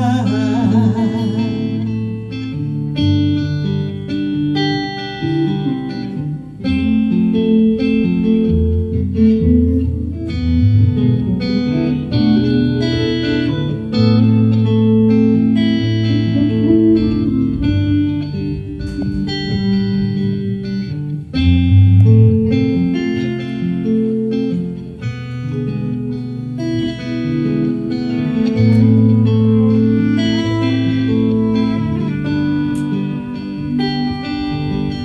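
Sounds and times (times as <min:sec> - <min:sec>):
guitar playing plucked notes: 0:00.0 - 0:35.0.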